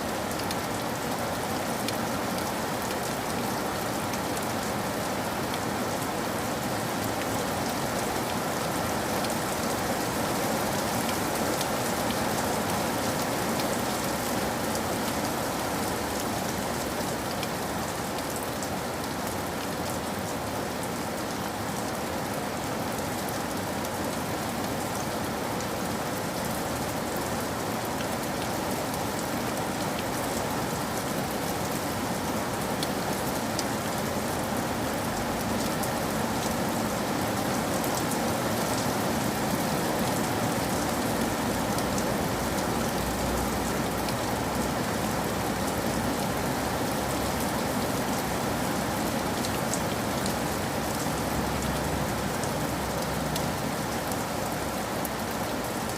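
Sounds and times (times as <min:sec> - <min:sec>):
rain pattering: 0:00.0 - 0:55.9.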